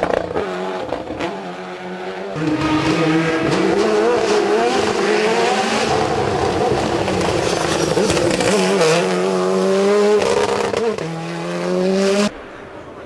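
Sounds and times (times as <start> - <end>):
race car engine revving: 0.0 - 12.3.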